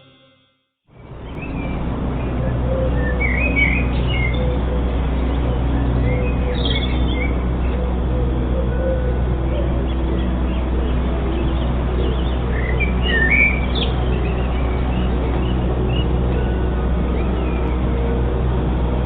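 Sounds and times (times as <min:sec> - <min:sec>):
steady low hum: 0:00.9 - 0:19.0
birds chirping and calling: 0:01.2 - 0:18.1.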